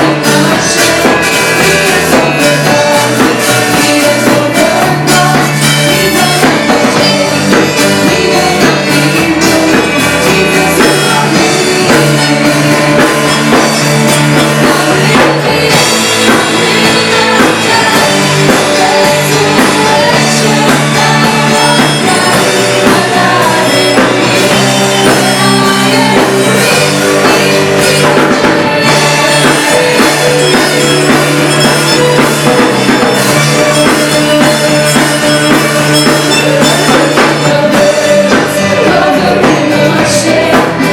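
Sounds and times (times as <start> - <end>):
drum kit: 0.0 - 40.9
live band playing: 0.0 - 40.9
people singing: 0.0 - 40.9.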